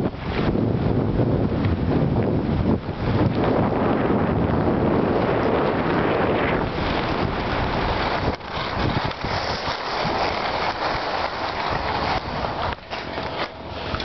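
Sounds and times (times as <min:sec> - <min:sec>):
skis scraping over snow: 0:00.0 - 0:14.0.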